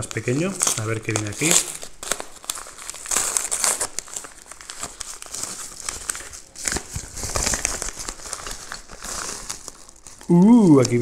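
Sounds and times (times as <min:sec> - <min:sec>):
paper packaging crinkling: 0:00.0 - 0:11.0.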